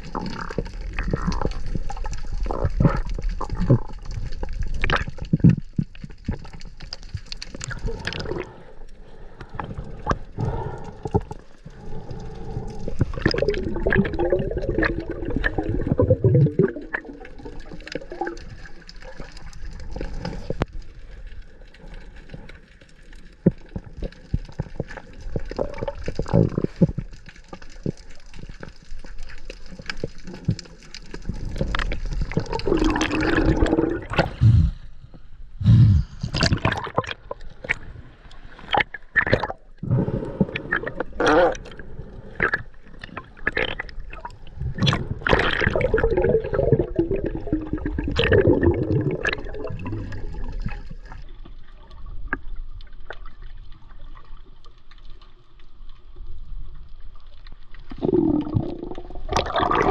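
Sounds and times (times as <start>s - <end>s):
bubbling underwater: 0.0s - 8.6s, 10.4s - 20.7s, 23.5s - 27.2s, 29.6s - 34.9s, 35.6s - 38.0s, 38.6s - 54.6s, 57.7s - 59.9s
water sloshing and gurgling: 0.0s - 59.9s.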